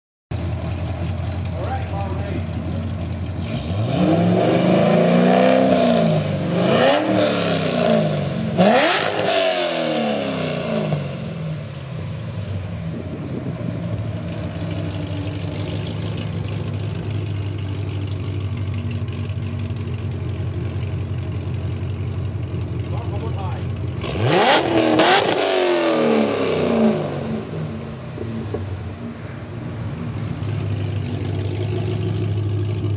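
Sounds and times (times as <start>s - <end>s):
car engine revving and idling: 0.3s - 32.9s.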